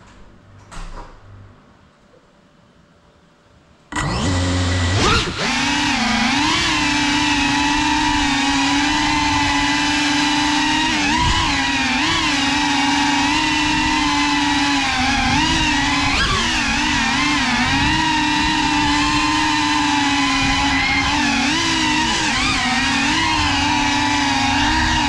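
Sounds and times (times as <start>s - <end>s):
drone motors whining: 3.9s - 25.0s.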